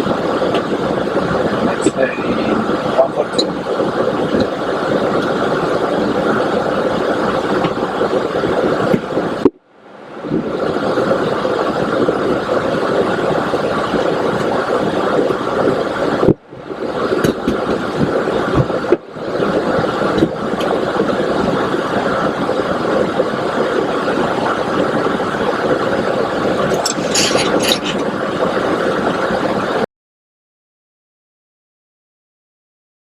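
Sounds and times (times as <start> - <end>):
airliner cockpit engine noise: 0.0 - 29.9.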